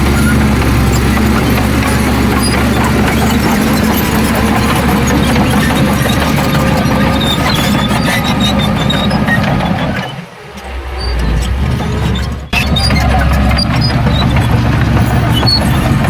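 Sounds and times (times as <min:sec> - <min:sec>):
diesel machinery engine drone: 0:00.0 - 0:16.0
high-pitched squeaks: 0:00.0 - 0:16.0.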